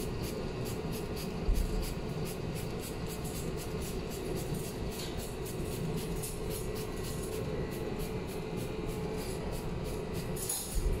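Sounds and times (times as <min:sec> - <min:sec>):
machinery and ventilation hum: 0:00.0 - 0:11.0.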